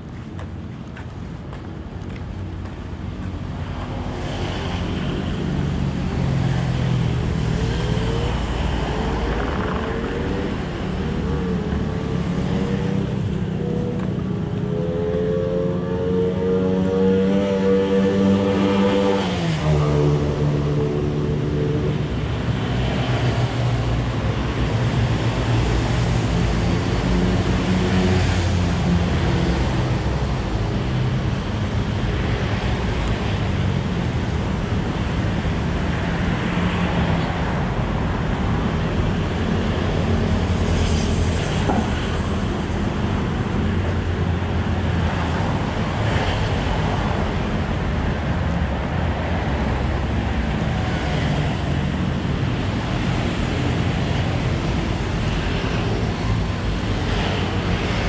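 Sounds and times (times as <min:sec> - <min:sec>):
traffic and road noise: 0:00.0 - 0:58.0.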